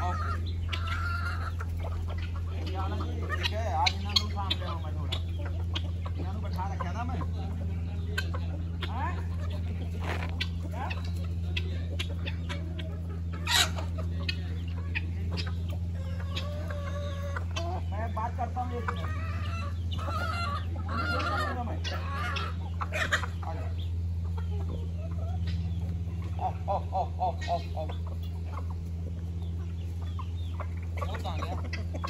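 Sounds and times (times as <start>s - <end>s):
chickens clucking and calling: 0.0s - 32.0s
steady low hum: 0.0s - 32.0s.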